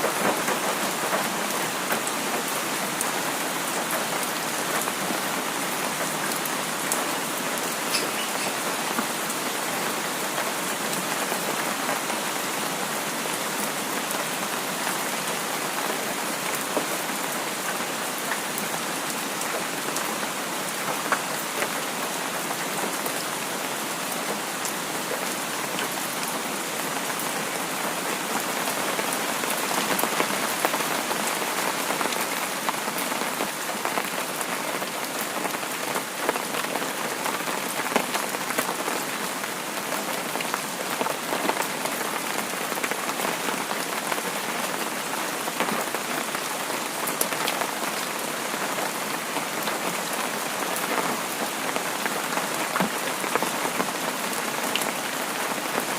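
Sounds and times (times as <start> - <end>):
rain falling on a surface: 0.0 - 55.9.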